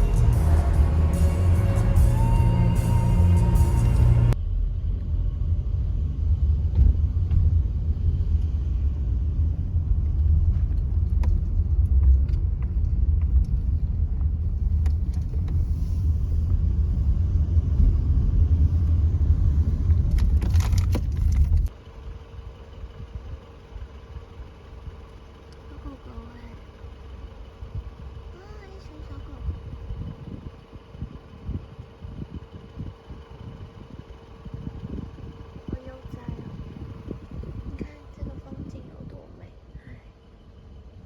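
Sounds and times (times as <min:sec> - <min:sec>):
car rumbling on the move: 0:00.0 - 0:41.0.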